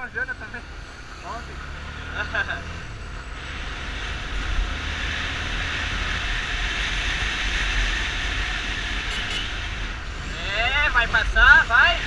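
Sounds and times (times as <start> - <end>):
low engine rumble: 0.0 - 12.0
road and wind noise: 0.0 - 12.0.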